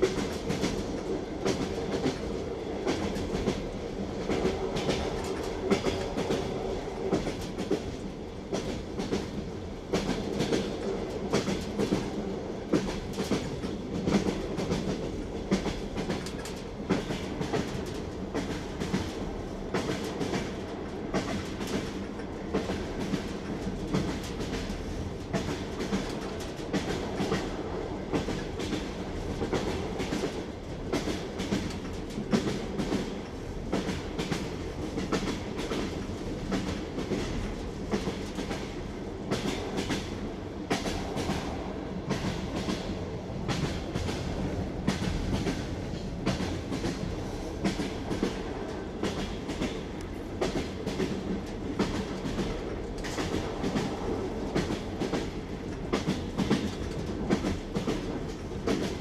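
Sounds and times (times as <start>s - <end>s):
train rumble: 0.0s - 59.0s
train wheels clacking on rail joints: 0.0s - 59.0s.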